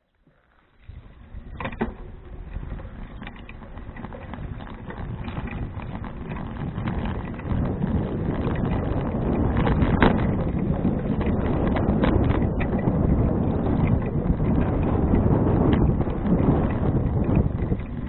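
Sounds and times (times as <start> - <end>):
bicycle tyres rolling on path: 0.0 - 18.0
wind buffeting microphone: 0.8 - 18.0
clicks and rattles: 1.2 - 18.0.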